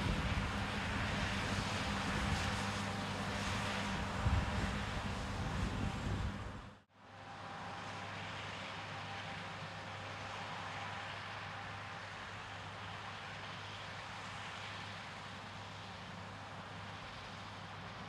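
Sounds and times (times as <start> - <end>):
combine harvester engine drone: 0.0 - 18.0.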